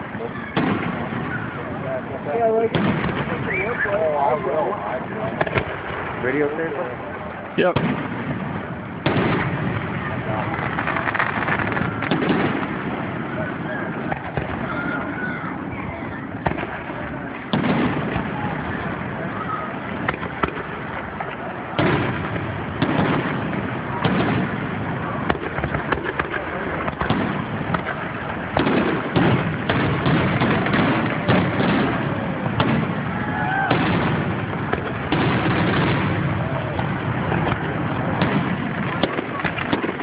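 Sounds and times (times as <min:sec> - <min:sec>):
fireworks bangs and crackle: 0:00.0 - 0:40.0.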